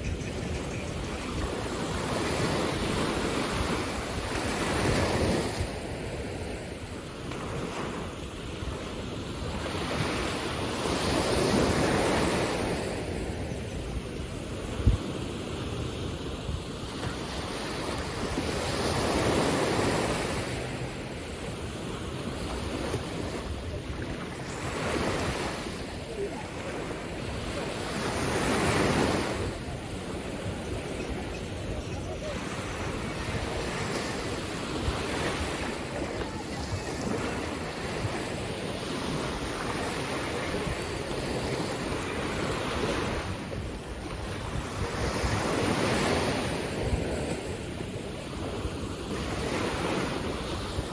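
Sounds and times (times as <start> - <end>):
ocean surf washing onto beach: 0.0 - 50.9
wind rumbling on microphone: 0.0 - 50.9.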